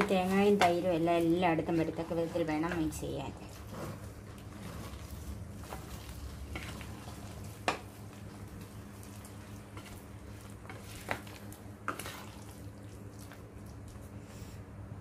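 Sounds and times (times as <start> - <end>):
spatula scraping pan: 0.0 - 12.6
low steady hum: 0.0 - 15.0.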